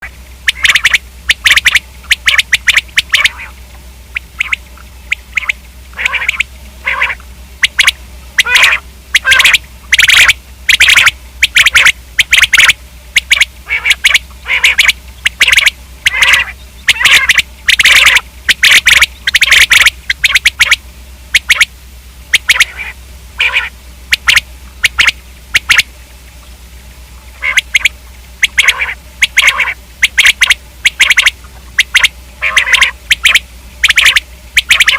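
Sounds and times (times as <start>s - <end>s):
quail calling: 0.0s - 21.7s, 22.3s - 34.9s.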